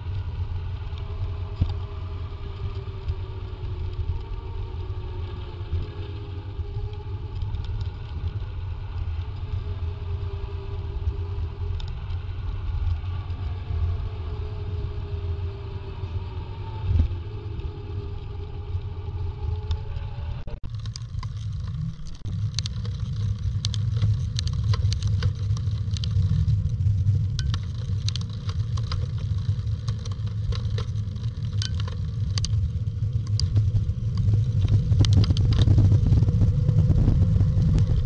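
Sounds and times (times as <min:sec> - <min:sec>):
faint wavering hum: 0:00.0 - 0:38.0
wind buffeting microphone: 0:00.0 - 0:38.0.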